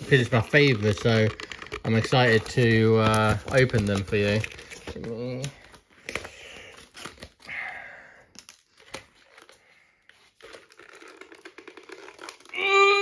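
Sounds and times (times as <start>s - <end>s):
plastic packaging crinkling: 0.0s - 7.6s, 8.2s - 12.6s.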